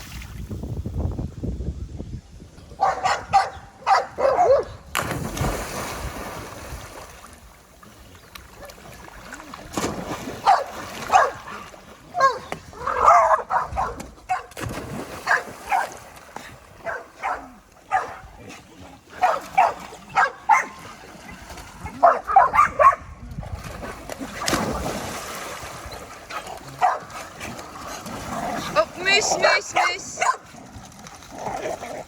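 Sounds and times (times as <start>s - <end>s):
water splashing: 0.0s - 0.6s, 3.9s - 32.0s.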